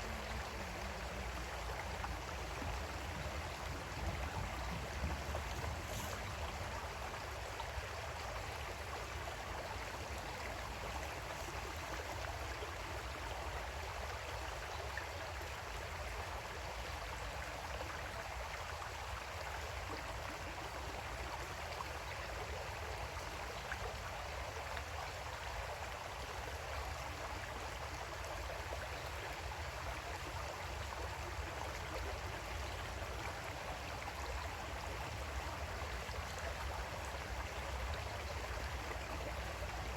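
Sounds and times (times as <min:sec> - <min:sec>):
creek water flowing over rocks: 0:00.0 - 0:39.9.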